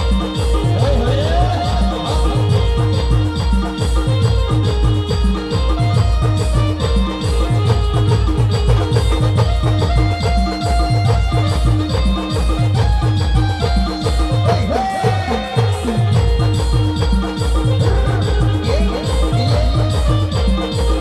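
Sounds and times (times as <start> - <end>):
heavy drum beat: 0.0 - 21.0.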